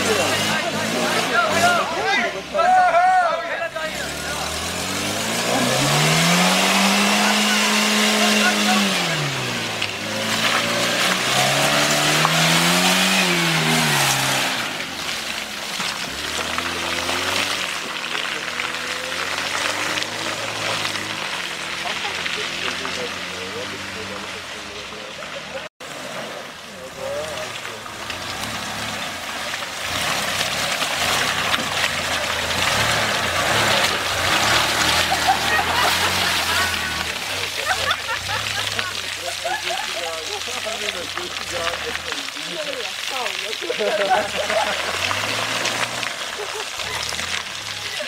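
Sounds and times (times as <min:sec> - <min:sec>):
engine pulling through mud: 0:00.0 - 0:48.0.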